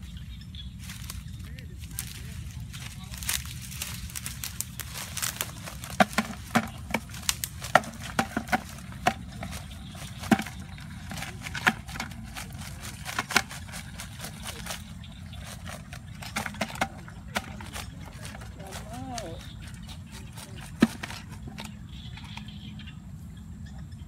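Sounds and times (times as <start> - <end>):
crab trap rattling: 2.0 - 22.5.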